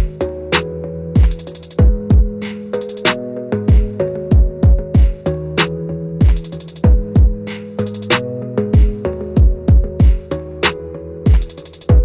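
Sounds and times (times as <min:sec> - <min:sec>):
electronic hip-hop beat: 0:00.0 - 0:12.0.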